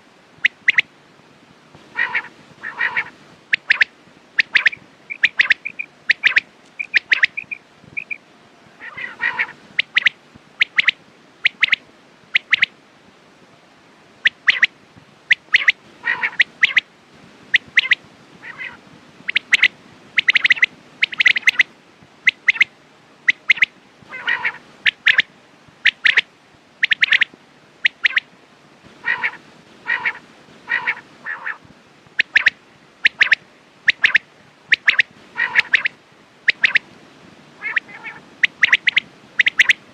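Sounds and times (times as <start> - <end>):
quail calling: 0.4 - 0.9, 1.8 - 8.2, 8.8 - 12.7, 14.2 - 14.7, 15.3 - 16.9, 17.5 - 22.7, 23.3 - 28.3, 29.0 - 31.6, 32.2 - 36.9, 37.6 - 39.8.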